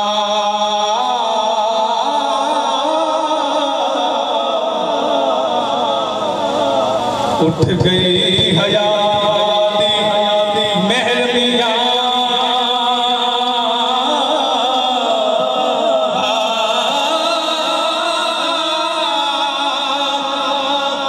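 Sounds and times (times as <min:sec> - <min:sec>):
man singing through loudspeaker: 0:00.0 - 0:21.0.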